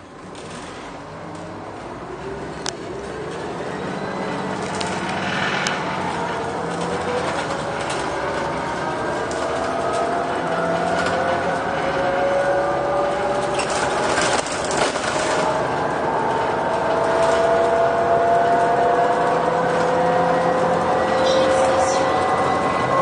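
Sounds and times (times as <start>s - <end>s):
bus drivetrain whine: 0.0s - 23.0s.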